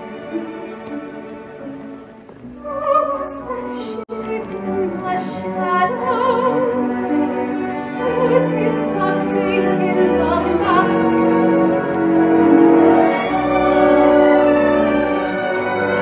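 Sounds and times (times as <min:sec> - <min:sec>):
orchestra playing: 0:00.0 - 0:16.0
operatic singing with vibrato: 0:02.5 - 0:16.0.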